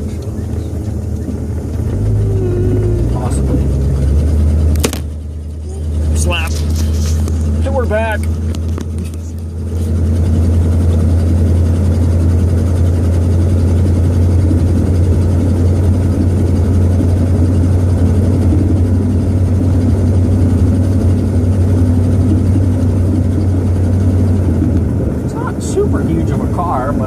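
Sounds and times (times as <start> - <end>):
car engine running: 0.0 - 27.0
road noise: 0.0 - 27.0.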